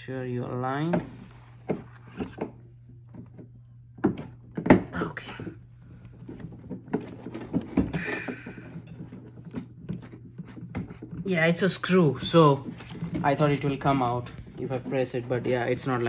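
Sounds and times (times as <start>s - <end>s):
hard plastic knocking and scraping: 0.8s - 16.0s.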